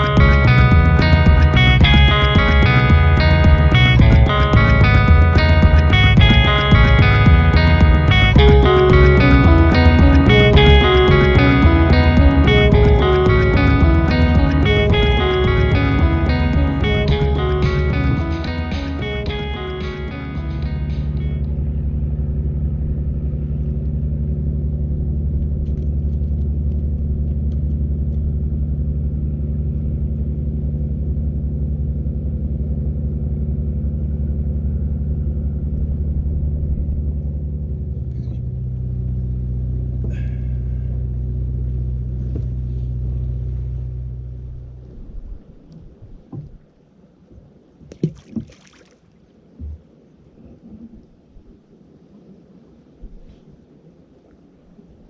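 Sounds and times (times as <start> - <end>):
boat engine running: 0.0 - 46.8.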